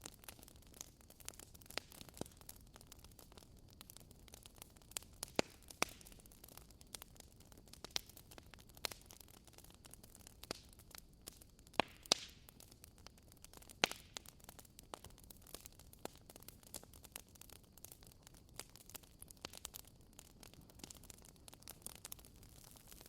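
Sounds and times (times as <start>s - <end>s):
fire popping: 0.0s - 23.0s
wood fire crackling: 0.0s - 23.0s.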